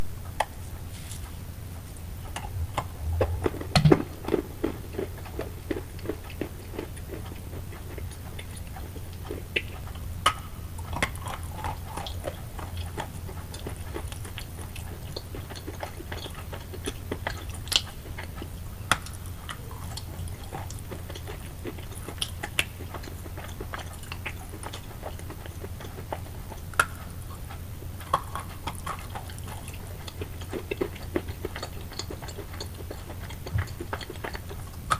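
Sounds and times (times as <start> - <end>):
low steady hum: 0.0 - 34.9
chalk being chewed: 4.2 - 34.9.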